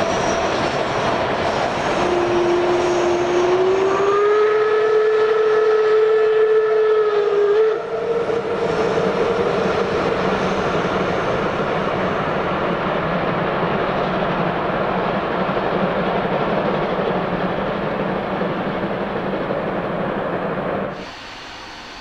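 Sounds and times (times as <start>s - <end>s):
steam train running: 0.0s - 22.0s.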